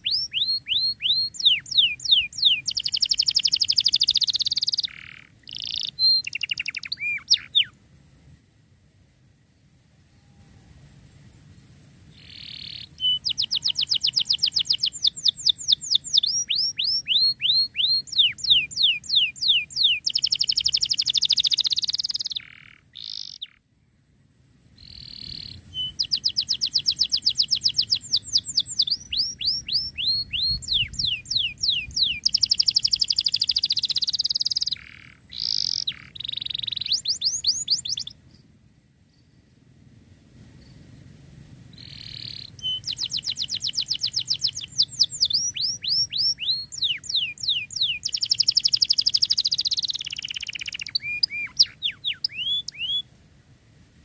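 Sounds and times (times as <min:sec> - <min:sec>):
canary singing: 0:00.0 - 0:07.7, 0:12.2 - 0:23.6, 0:24.8 - 0:38.2, 0:41.8 - 0:53.1.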